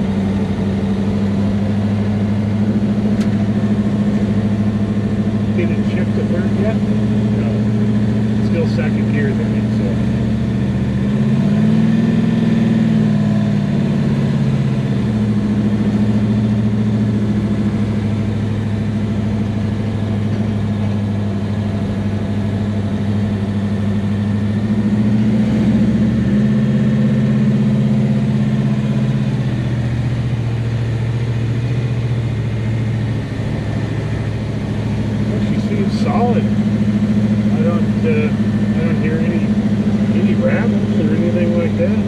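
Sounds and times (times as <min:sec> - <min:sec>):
drag car engine running: 0:00.0 - 0:42.0.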